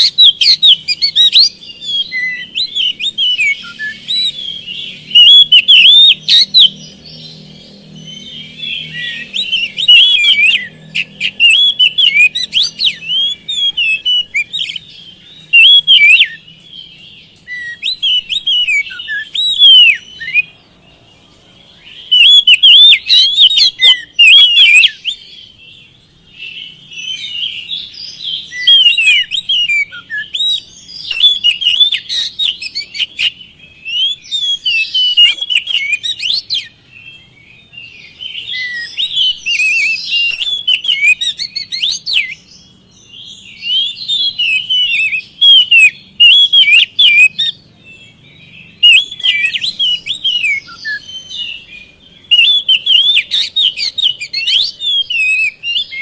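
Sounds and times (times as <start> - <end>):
bird singing whistles and chirps: 0.0 - 56.0.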